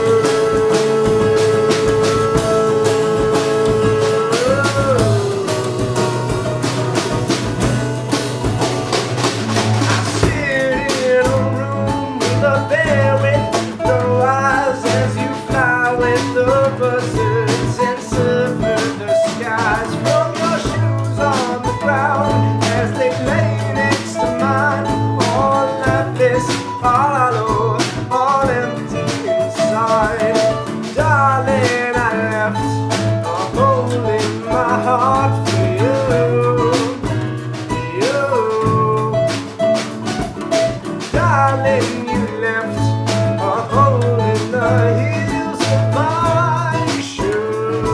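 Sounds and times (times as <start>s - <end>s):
bending guitar melody: 0.0s - 47.9s
blues band playing: 0.0s - 47.9s.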